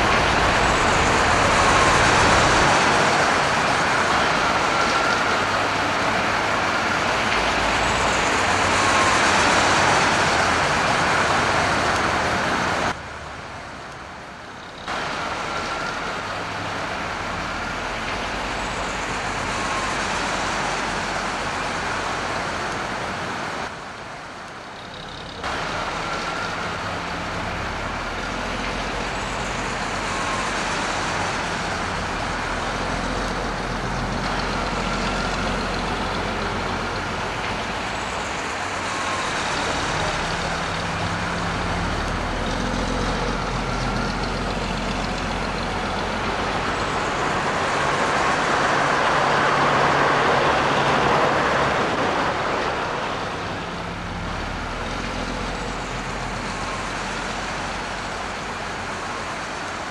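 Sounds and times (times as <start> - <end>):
bus engine droning: 0.0 - 59.9.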